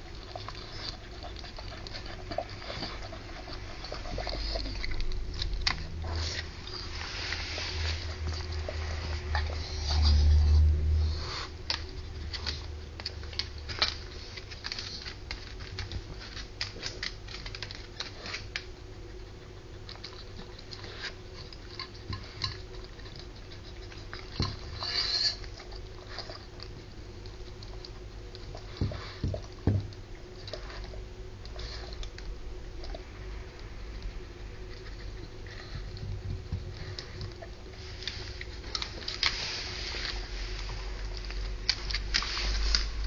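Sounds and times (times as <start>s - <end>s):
dog eating wet smacking: 0.0s - 43.0s.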